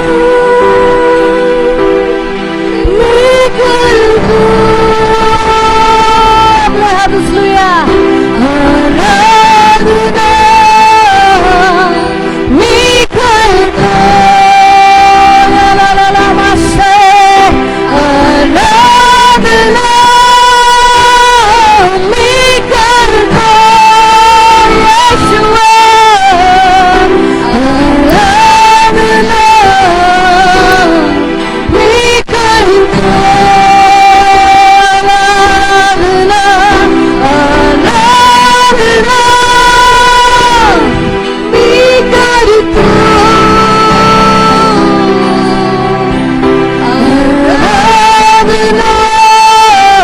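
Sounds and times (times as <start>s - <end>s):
instrumental accompaniment: 0.0s - 50.0s
person singing long held notes: 0.0s - 50.0s.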